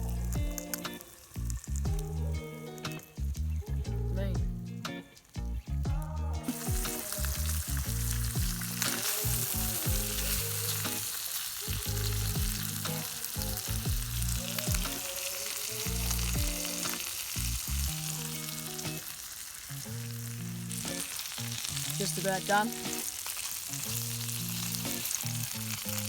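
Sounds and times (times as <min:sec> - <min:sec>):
fish fillets sizzling: 0:00.0 - 0:03.7, 0:04.9 - 0:26.0.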